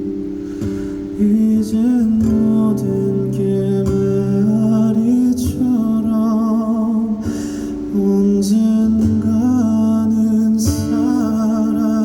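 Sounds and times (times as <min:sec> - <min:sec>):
man singing a slow ballad: 0:00.5 - 0:12.0.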